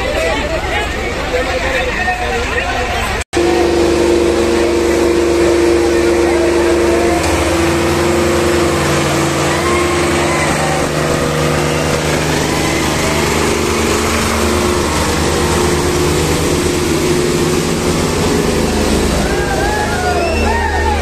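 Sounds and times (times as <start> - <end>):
diesel tractor engines running hard: 0.0 - 21.0.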